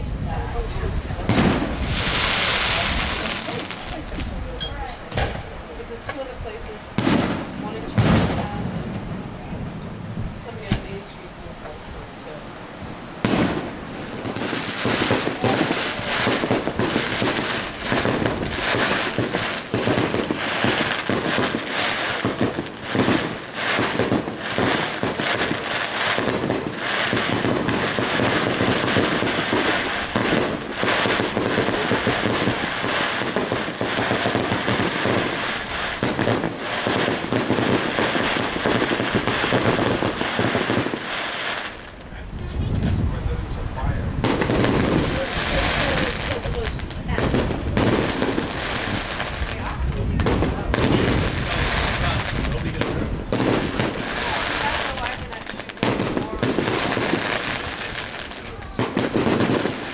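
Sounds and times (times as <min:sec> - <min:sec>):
fireworks crackles and bangs: 0:00.0 - 0:59.9.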